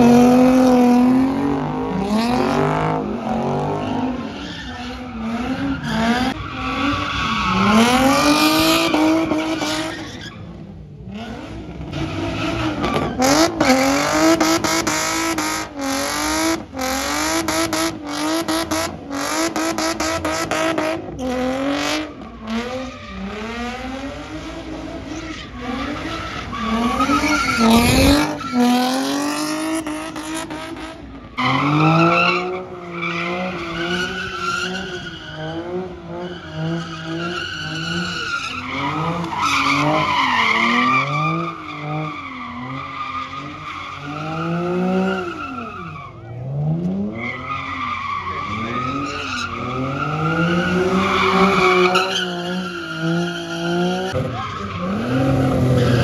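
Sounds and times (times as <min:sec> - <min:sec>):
car engines revving: 0:00.0 - 0:56.0
tires squealing on asphalt: 0:00.0 - 0:56.0.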